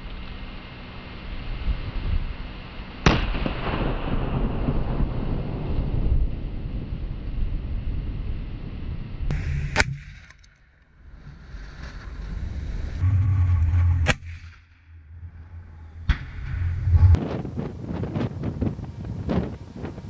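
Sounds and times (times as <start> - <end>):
wind rumble on microphone: 1.4 - 9.8, 11.0 - 20.0.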